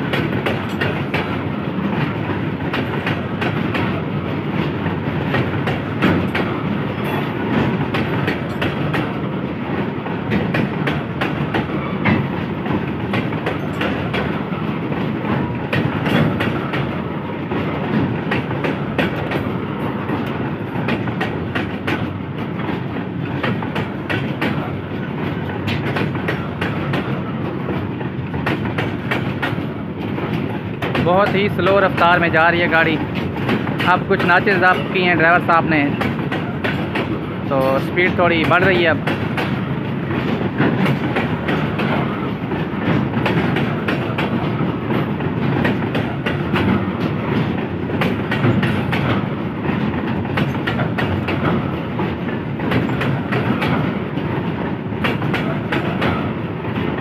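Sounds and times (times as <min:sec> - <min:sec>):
freight wagons rumbling: 0:00.0 - 0:57.0.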